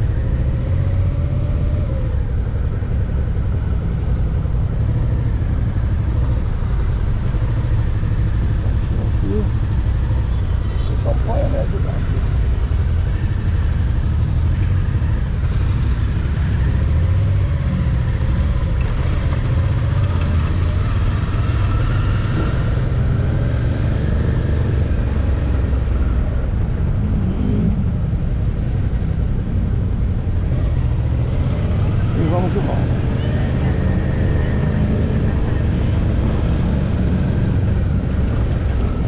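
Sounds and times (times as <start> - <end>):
motorcycle engine and road rumble: 0.0 - 39.0.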